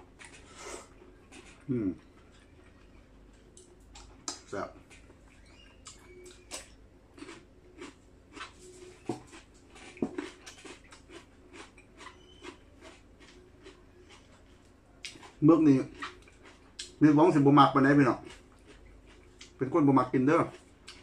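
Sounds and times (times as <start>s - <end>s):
person chewing food: 0.0s - 17.0s, 17.9s - 19.7s, 20.4s - 21.0s.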